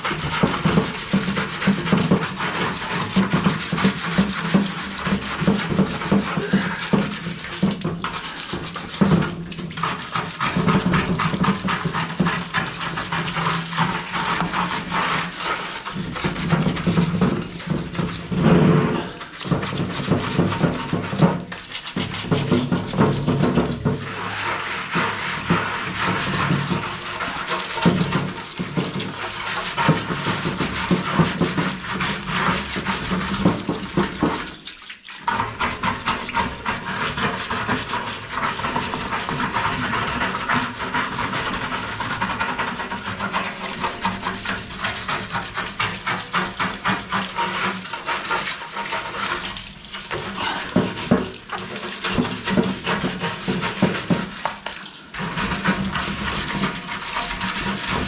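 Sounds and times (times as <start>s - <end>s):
running water: 0.0s - 58.0s
toothbrush scrubbing plastic: 0.0s - 58.0s.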